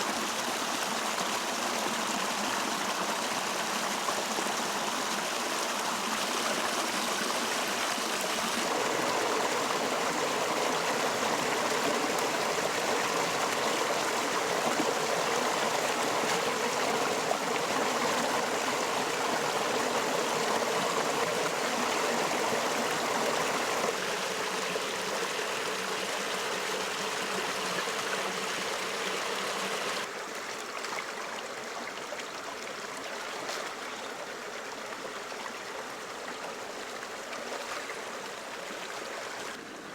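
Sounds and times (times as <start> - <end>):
river water flowing: 0.1 - 39.9.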